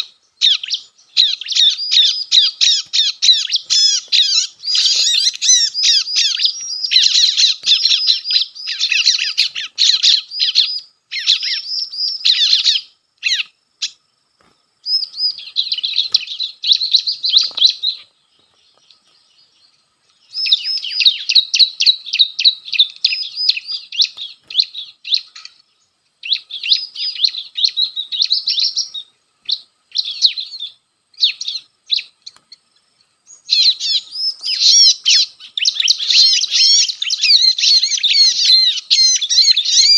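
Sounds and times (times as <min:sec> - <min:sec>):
prinia chattering calls: 0:00.0 - 0:14.0, 0:14.8 - 0:32.6, 0:33.3 - 0:39.9.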